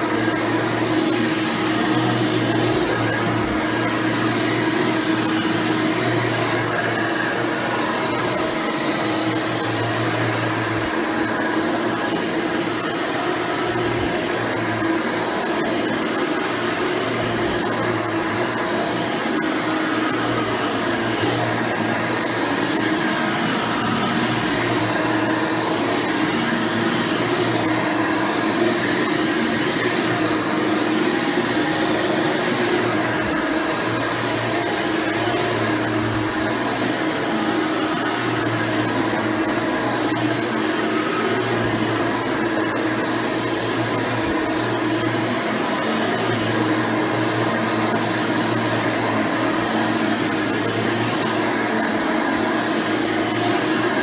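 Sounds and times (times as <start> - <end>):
upright vacuum cleaner running: 0.0 - 54.0.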